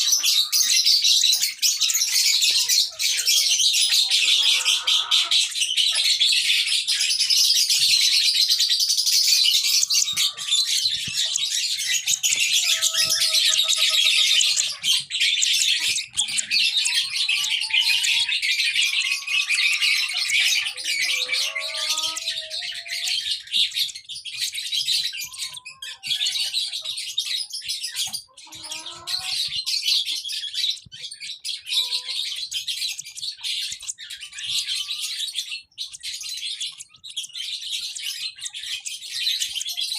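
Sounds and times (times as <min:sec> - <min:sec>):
birds chirping chatter: 0:00.0 - 0:39.9.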